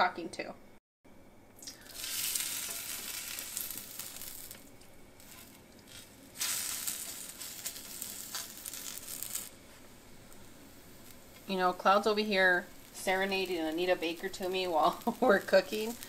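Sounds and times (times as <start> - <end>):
tortilla sizzling on a griddle: 1.6 - 16.0.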